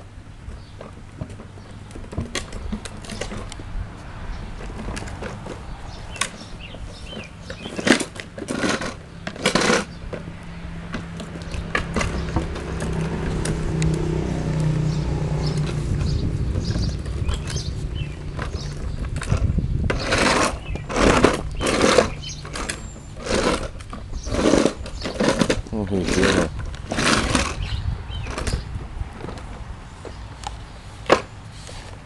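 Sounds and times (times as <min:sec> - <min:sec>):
plastic toy tricycle rolling: 0:00.4 - 0:03.7, 0:04.4 - 0:32.0.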